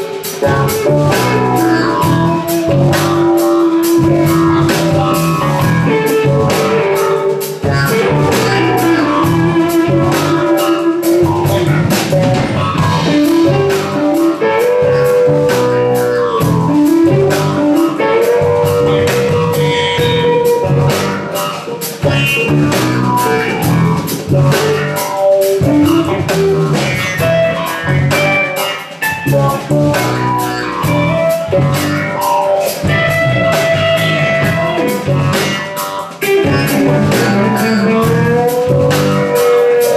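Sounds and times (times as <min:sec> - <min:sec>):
drum kit beat: 0:00.0 - 0:39.9
electric guitar lead with bends: 0:00.0 - 0:39.9.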